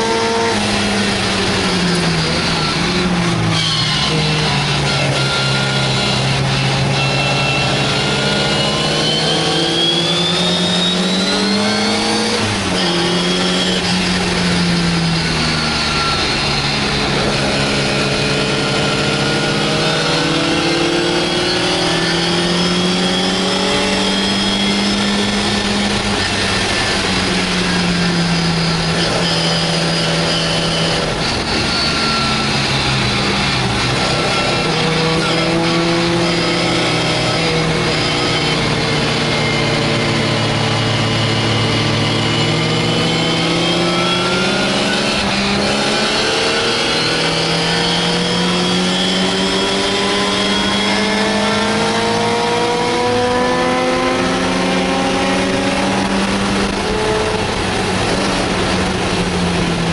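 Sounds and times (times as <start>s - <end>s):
car engine revving: 0.0s - 59.9s
wind and road noise: 0.0s - 59.9s.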